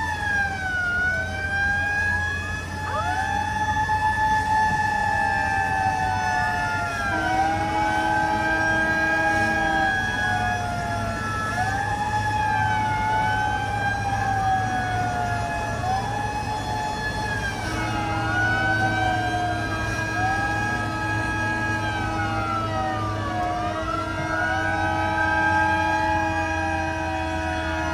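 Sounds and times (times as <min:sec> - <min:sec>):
emergency sirens wailing: 0:00.0 - 0:27.9.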